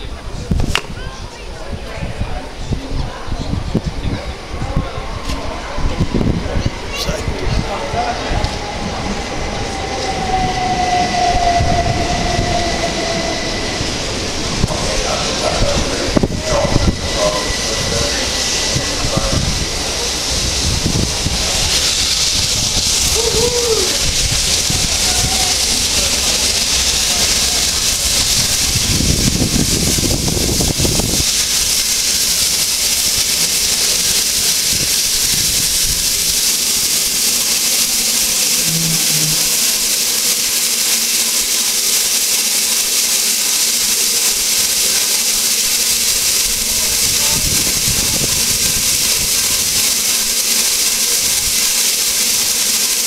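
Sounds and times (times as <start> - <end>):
train rumbling: 0.0 - 53.0
steam hissing: 2.1 - 53.0.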